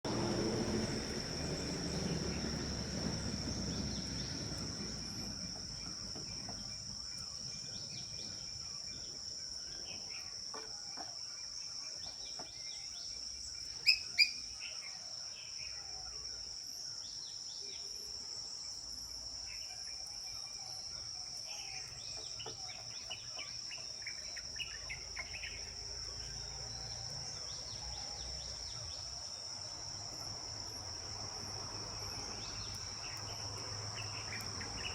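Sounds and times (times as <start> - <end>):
insect drone: 0.1 - 34.9.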